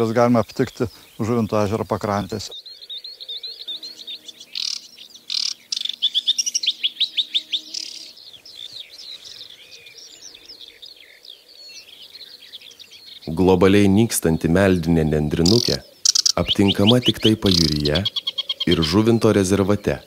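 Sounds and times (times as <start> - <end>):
warbler singing: 0.0 - 20.0.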